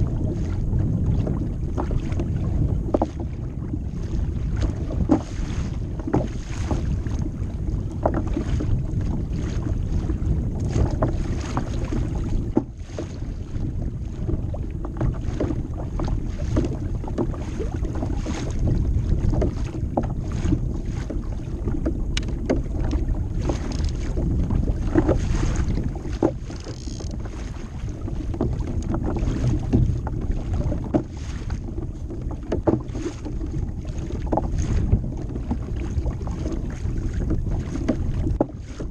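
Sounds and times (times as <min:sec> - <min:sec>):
water slapping against hull: 0:00.0 - 0:38.9
wind buffeting microphone: 0:00.0 - 0:38.9.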